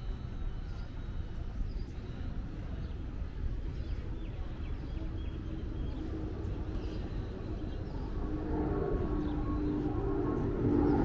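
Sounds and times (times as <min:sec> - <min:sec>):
faint bird chirps: 0:00.0 - 0:11.0
low engine hum: 0:00.0 - 0:11.0
steady low rumble: 0:00.0 - 0:11.0.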